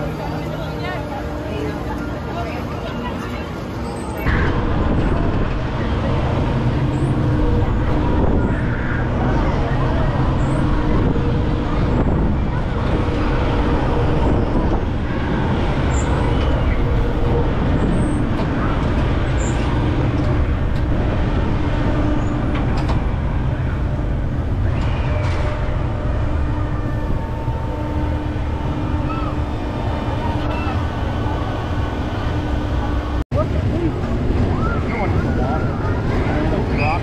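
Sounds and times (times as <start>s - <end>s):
wind rushing over microphone: 4.2s - 37.0s.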